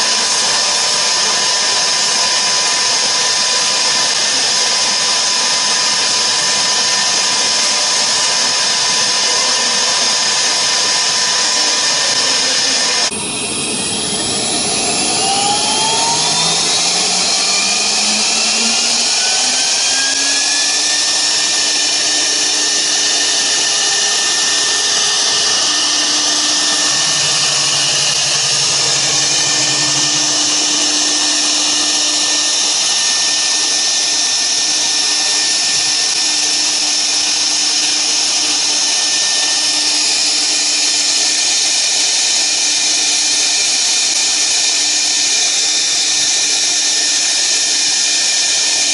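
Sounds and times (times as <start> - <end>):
router spindle motor whine: 0.0 - 41.2.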